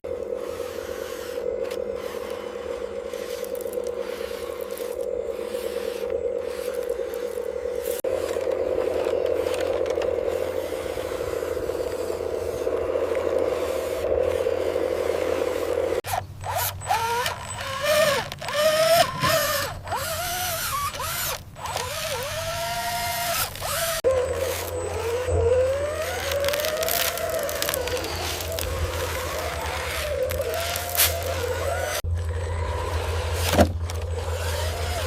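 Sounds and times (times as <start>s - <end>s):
small electric motor whirring: 0.1s - 35.0s.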